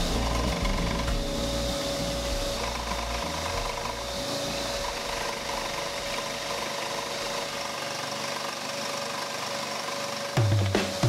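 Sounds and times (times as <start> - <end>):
constant tone: 0.0 - 9.6
scroll saw cutting wood: 0.0 - 11.0.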